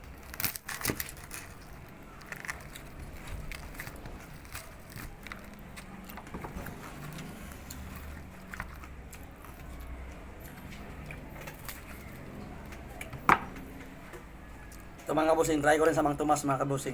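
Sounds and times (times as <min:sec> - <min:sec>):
crunchy chewing: 0:00.0 - 0:15.1.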